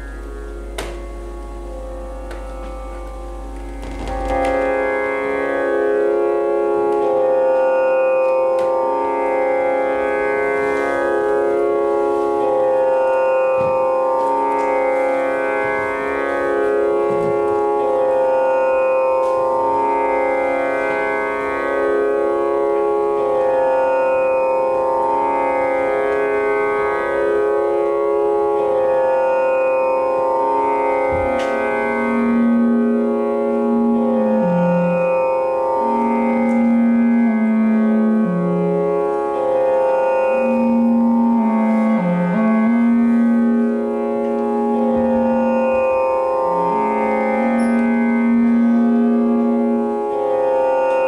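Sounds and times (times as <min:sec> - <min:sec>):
electronic drone music: 0:00.0 - 0:51.0.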